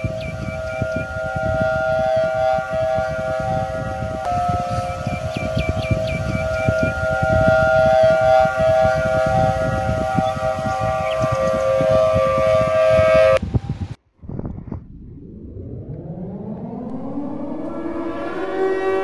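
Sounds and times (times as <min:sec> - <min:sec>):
siren-like wail: 0:00.0 - 0:13.5, 0:15.2 - 0:19.0
rough low rumble: 0:00.0 - 0:19.0.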